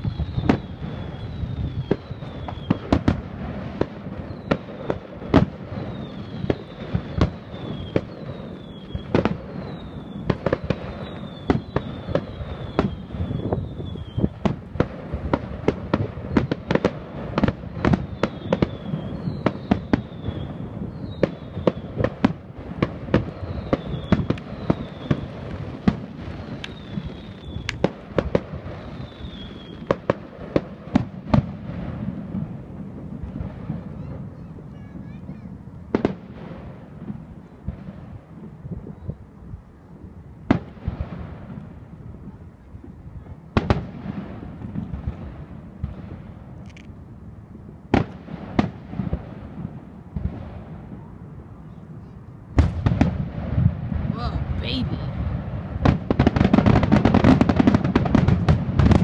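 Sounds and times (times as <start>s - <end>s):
fireworks whistling: 0.0s - 39.4s, 47.9s - 59.0s
fireworks bursting: 0.0s - 59.0s.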